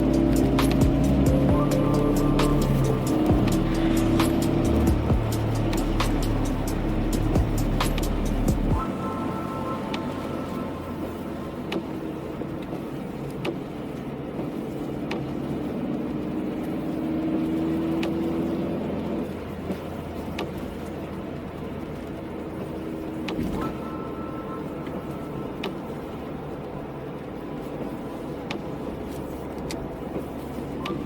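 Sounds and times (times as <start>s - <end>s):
car engine and tyre noise: 0.0s - 31.0s
windscreen wipers clicking: 0.0s - 31.0s.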